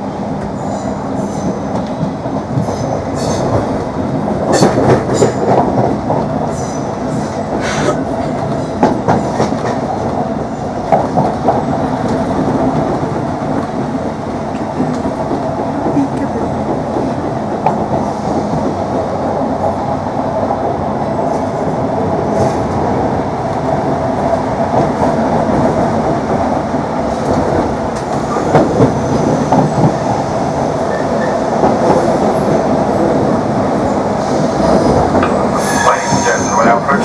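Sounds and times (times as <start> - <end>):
train wheels rumbling: 0.0 - 37.0.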